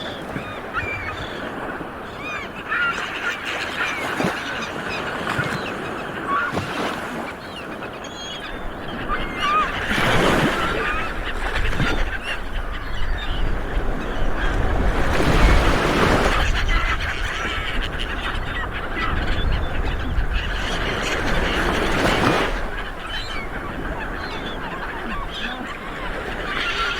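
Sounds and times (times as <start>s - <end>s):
seabirds squawking: 0.0s - 26.9s.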